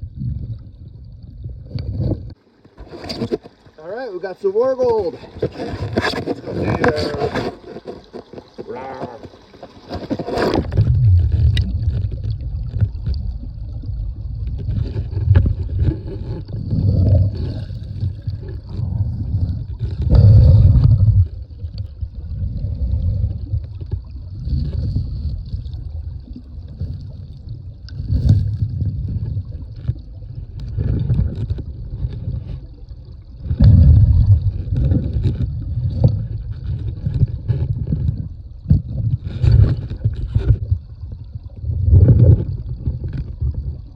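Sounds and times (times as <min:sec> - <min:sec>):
creek water sloshing and gurgling: 0:00.0 - 0:43.9.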